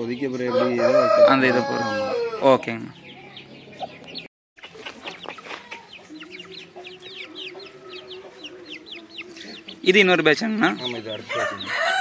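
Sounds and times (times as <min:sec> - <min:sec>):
chickens clucking: 0:00.0 - 0:12.0
chicks peeping: 0:00.0 - 0:12.0.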